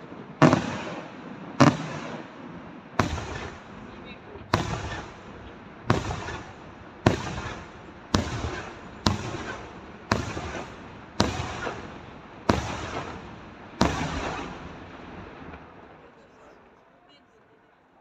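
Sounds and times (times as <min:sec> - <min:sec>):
firework shells bursting: 0:00.0 - 0:02.4, 0:03.0 - 0:16.0.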